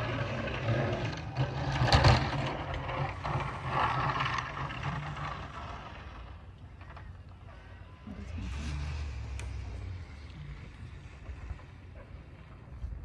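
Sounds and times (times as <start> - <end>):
truck engine driving past: 0.0 - 13.0.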